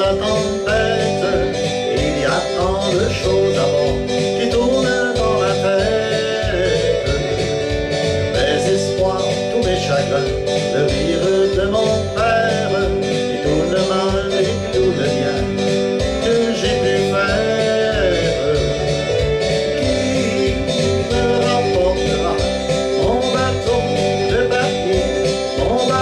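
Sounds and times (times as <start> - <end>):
country song with guitar: 0.0 - 26.0
man singing: 0.0 - 26.0.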